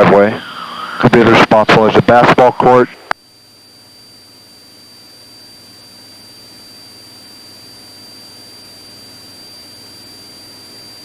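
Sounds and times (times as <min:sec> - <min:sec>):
high-pitched electronic whine: 0:00.0 - 0:11.0.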